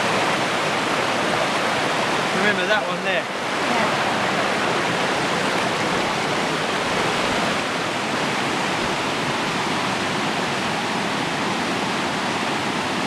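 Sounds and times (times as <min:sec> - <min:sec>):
fast-flowing river water: 0:00.0 - 0:13.0
waterfall rushing: 0:00.0 - 0:13.0.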